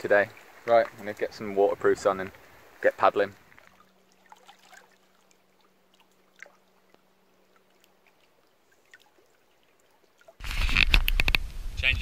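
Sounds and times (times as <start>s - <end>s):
water dripping and trickling: 0.0s - 10.4s.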